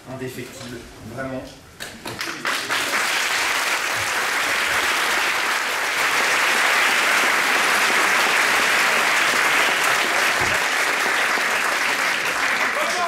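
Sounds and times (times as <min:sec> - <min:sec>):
audience applauding: 0:02.0 - 0:13.0.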